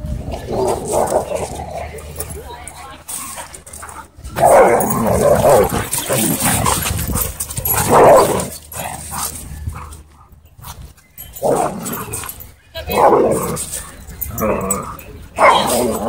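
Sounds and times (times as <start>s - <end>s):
dogs barking and whimpering: 0.3s - 16.0s.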